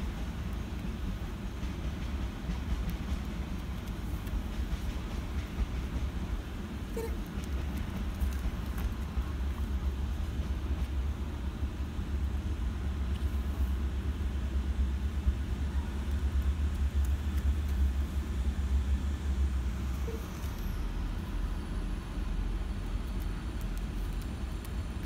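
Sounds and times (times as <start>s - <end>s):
low urban background rumble: 0.0s - 25.0s.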